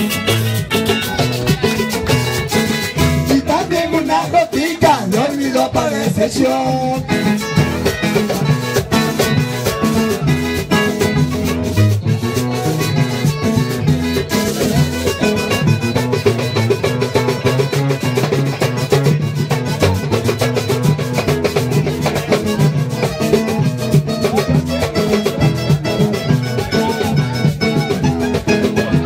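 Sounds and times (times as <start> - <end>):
fast percussive beat: 0.0 - 29.0
merengue on acoustic guitars: 0.0 - 29.0.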